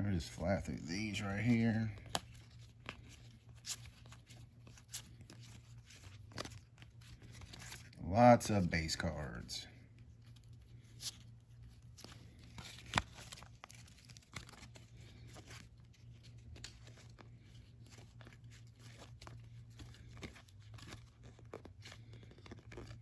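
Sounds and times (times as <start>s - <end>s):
low steady hum: 0.0s - 23.0s
cardboard cards flipped through: 1.0s - 8.0s, 10.0s - 23.0s.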